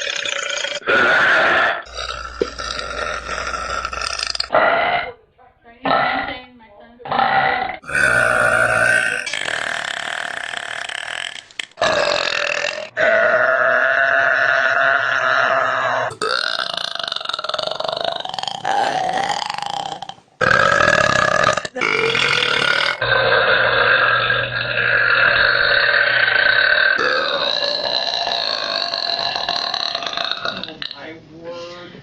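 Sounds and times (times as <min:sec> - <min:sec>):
woman burping: 0:00.0 - 0:05.1, 0:07.1 - 0:30.9.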